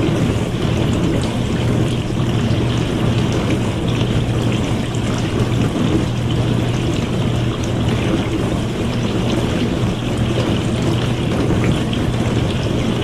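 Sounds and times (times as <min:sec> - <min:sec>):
dishwasher motor hum: 0:00.0 - 0:13.0
water spraying inside dishwasher: 0:00.0 - 0:13.0.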